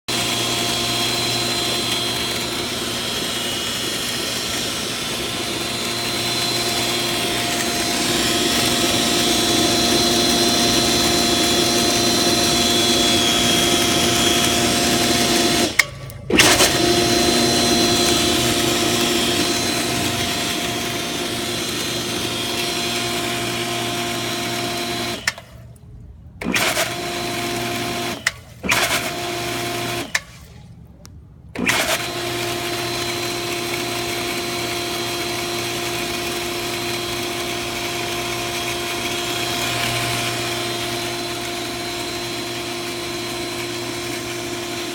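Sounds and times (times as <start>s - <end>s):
pool pump motor hum and whine: 0.1s - 44.9s.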